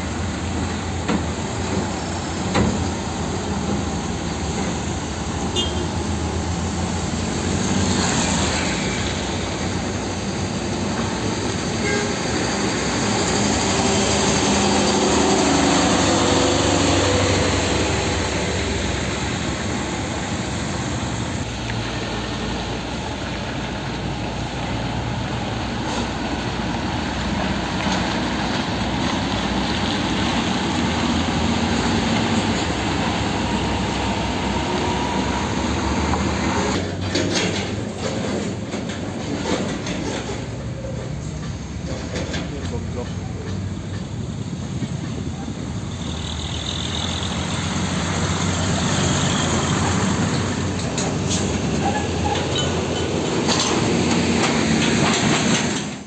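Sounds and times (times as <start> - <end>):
truck engine drone: 0.0 - 56.0
tyres on wet asphalt: 0.0 - 56.0.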